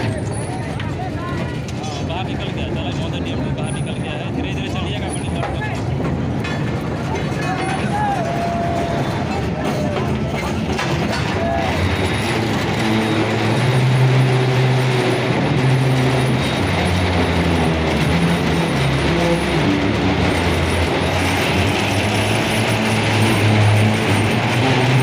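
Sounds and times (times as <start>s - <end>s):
rumbling track noise: 0.0s - 25.0s
train running: 0.0s - 25.0s.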